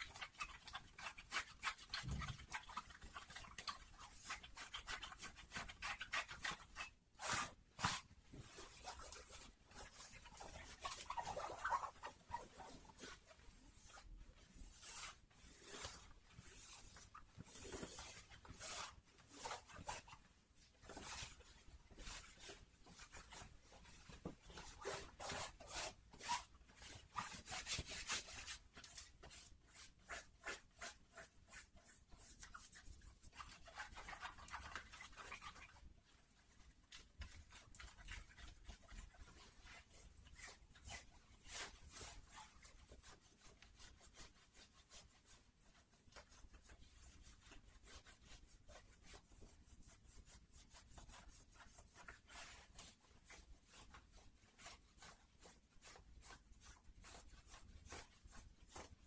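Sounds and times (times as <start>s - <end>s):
denim being rubbed: 0.0s - 59.0s.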